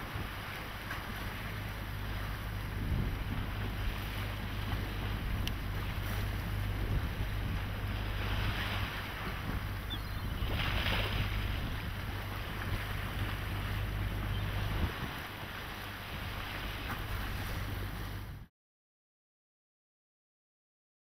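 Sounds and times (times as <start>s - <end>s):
choppy sea water hissing: 0.0s - 18.4s
wind buffeting the microphone: 0.0s - 18.4s.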